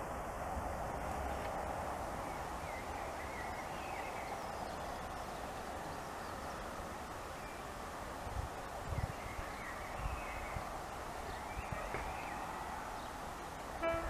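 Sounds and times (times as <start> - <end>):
outdoor hiss: 0.0 - 14.0
wind rumbling on microphone: 0.0 - 14.0.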